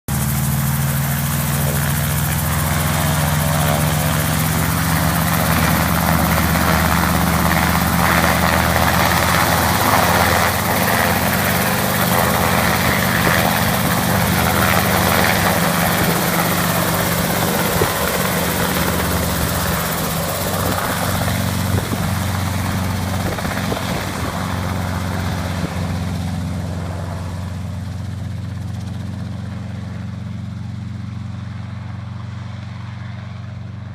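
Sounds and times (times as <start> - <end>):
helicopter engine and rotor: 0.1 - 33.6.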